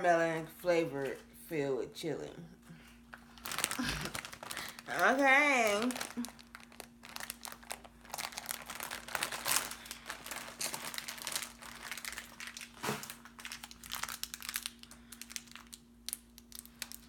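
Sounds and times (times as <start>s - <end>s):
candy wrapper crinkling: 3.1s - 17.0s.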